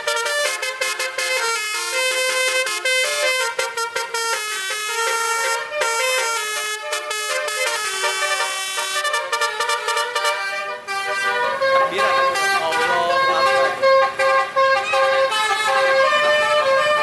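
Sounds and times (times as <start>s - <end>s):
musical truck horn playing tune: 0.0s - 17.0s.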